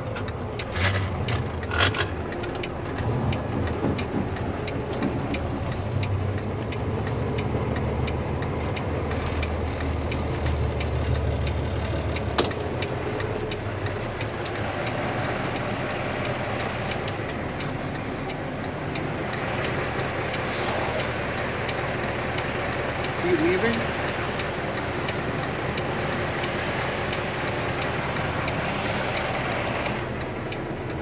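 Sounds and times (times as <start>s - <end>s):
light regular ticking: 0.0s - 20.6s, 21.2s - 31.0s
diesel truck engine rumbling: 0.0s - 31.0s.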